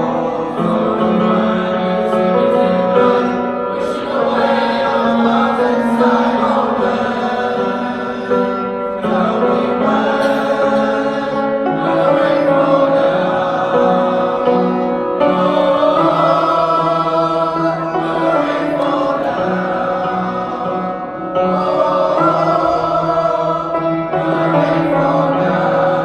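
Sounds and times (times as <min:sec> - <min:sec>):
choir singing chant-like song: 0:00.0 - 0:26.0.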